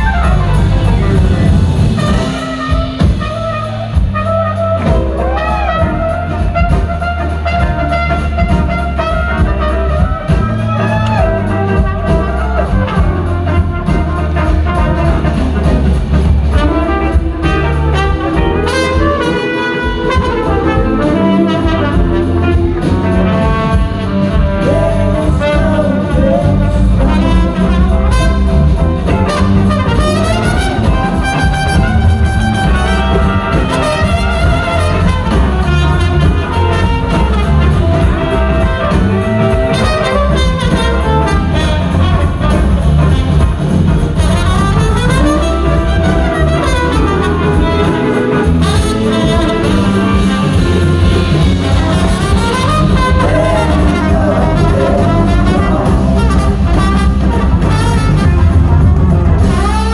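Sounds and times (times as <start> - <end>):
horn section lead lines: 0.0 - 59.9
live blues-rock band playing: 0.0 - 59.9.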